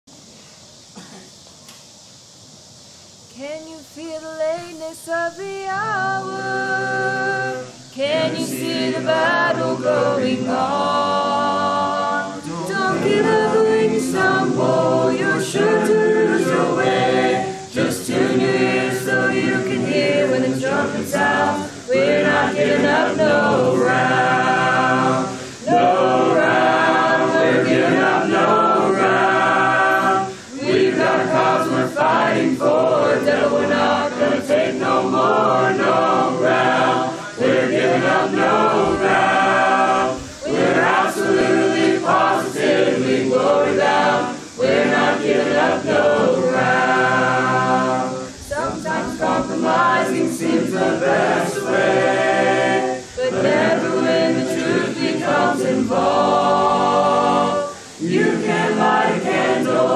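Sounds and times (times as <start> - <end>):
mixed choir singing a cappella: 2.8 - 59.9.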